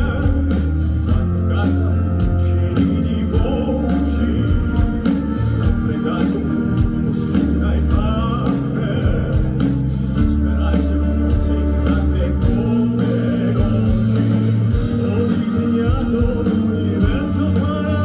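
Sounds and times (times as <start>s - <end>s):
drum beat: 0.0s - 18.0s
heavy bass: 0.0s - 18.0s
man singing with vibrato: 0.0s - 18.0s.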